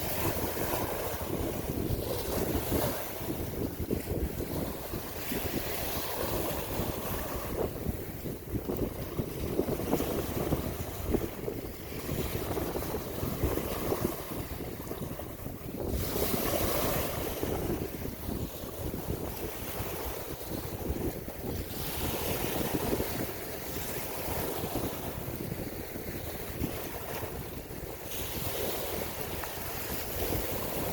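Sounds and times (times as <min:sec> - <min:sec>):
surf rushing: 0:00.0 - 0:30.9
wind: 0:00.0 - 0:30.9
wind buffeting microphone: 0:00.0 - 0:30.9.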